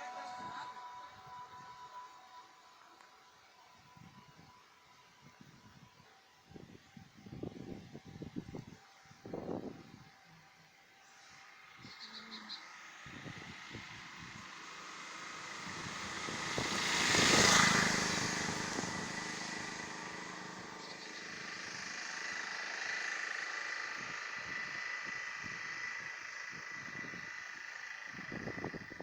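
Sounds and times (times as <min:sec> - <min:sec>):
road vehicle passing: 0:00.0 - 0:09.2, 0:09.8 - 0:29.0.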